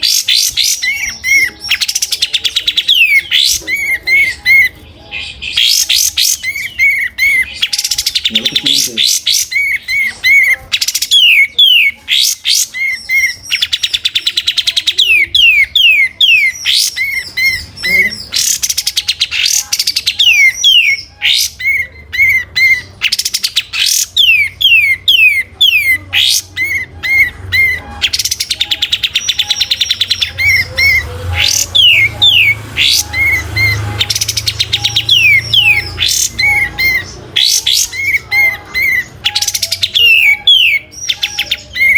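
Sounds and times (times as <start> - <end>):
bulbul singing: 0.0 - 41.9.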